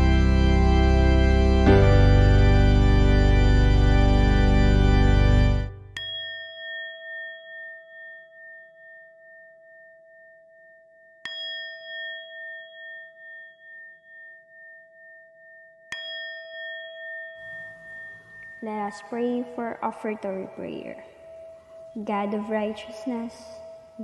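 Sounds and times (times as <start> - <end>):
bell-like chime ringing: 0.0 - 24.0.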